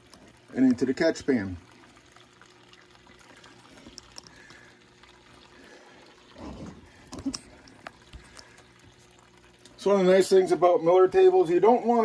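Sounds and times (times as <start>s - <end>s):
pump humming: 0.0s - 12.0s
water trickling into pan: 0.0s - 12.0s.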